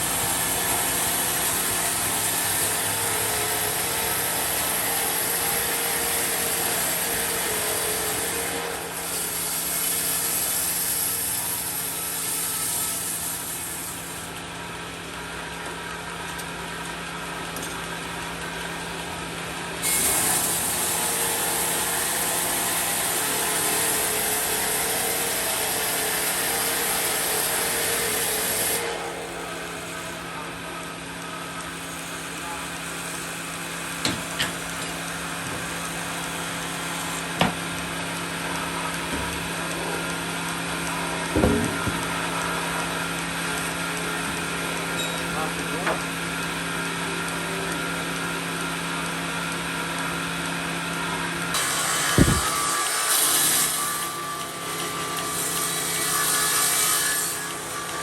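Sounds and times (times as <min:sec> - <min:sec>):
saw cutting wood hiss: 0:00.0 - 0:14.4, 0:19.8 - 0:46.2, 0:51.5 - 0:58.0
sawmill machine hum: 0:00.0 - 0:58.0.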